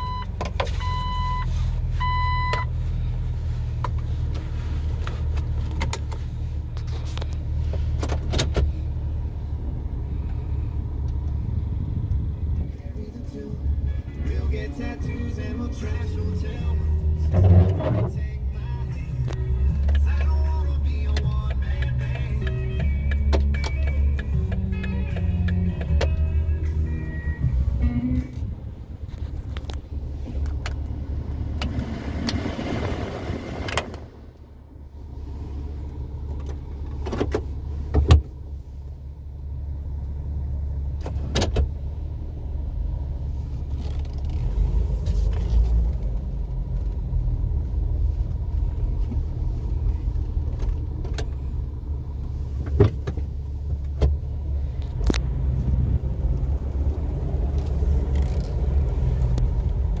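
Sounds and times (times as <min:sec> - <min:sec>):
car engine and tyres rumbling: 0:00.0 - 1:00.0.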